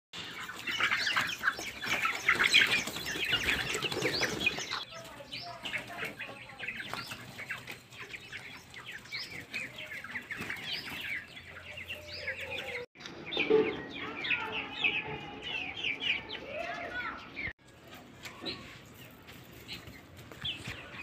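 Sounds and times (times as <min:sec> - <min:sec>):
chickens clucking and cheeping: 0:00.2 - 0:21.0.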